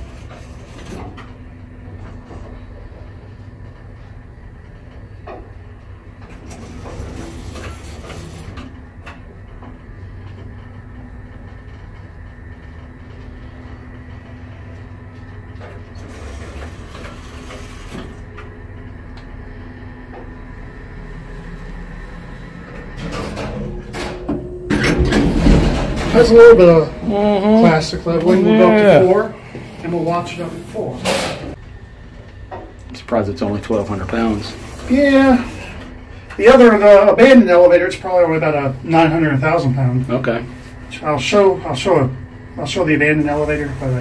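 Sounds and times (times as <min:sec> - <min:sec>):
elevator clatter: 0:00.0 - 0:44.0
elevator hum and rumble: 0:00.0 - 0:44.0.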